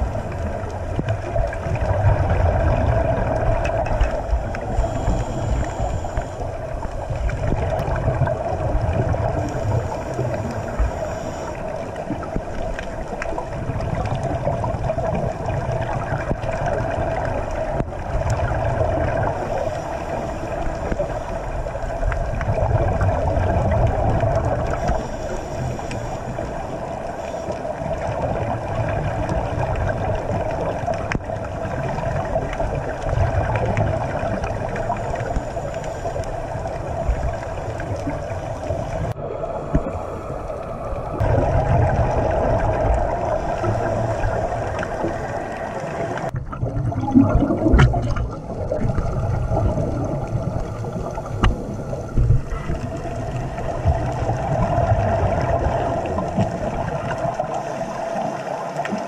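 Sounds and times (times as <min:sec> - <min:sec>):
diver's bubbles gurgling underwater: 0:00.0 - 0:59.0.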